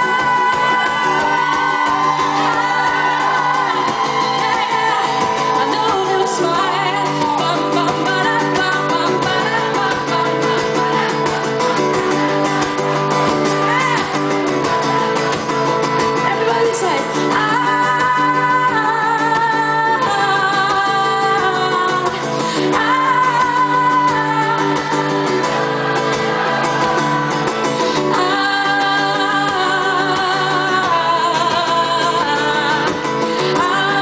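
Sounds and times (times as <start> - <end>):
acoustic guitar: 0.0 - 34.0
woman singing: 0.0 - 34.0.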